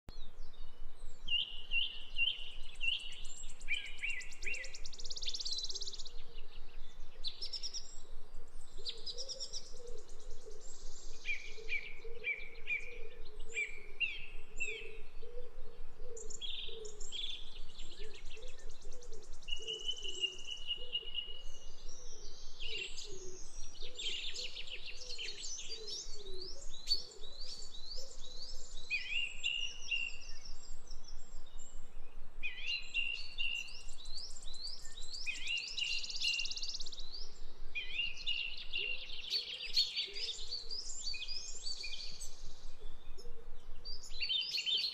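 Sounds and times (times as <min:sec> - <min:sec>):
birds chirping and trilling: 0:00.2 - 0:44.9.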